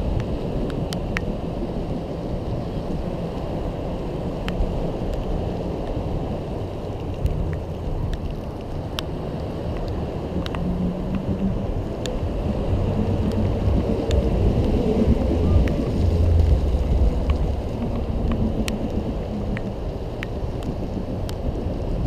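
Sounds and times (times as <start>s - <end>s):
scooter road noise on paving: 0.0s - 22.0s
wind rumble on microphone: 0.0s - 22.0s.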